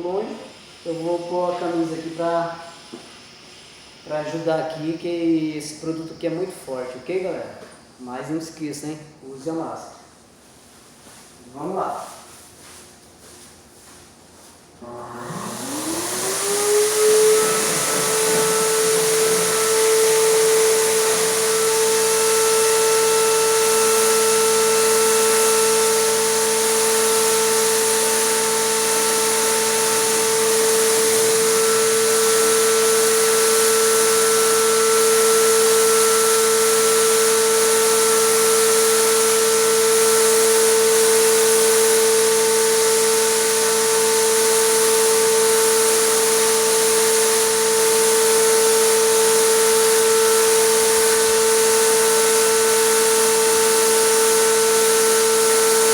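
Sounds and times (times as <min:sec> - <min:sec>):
air compressor humming: 0:00.0 - 0:08.0, 0:10.1 - 0:55.9.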